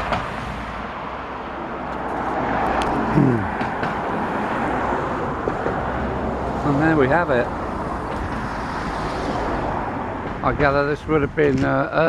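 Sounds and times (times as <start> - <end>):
steady rushing background noise: 0.0 - 12.0.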